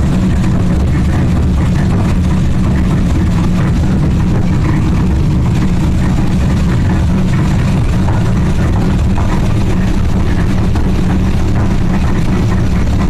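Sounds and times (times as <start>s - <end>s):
engine rumbling steadily: 0.0s - 13.0s.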